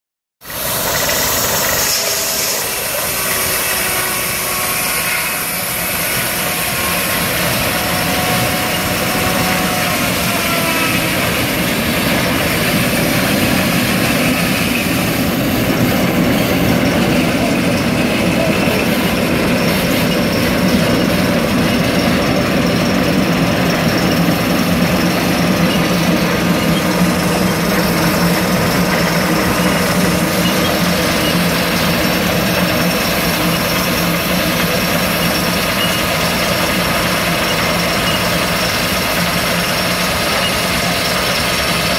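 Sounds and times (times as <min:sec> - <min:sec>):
sawmill saw blade droning: 0:00.4 - 0:41.9.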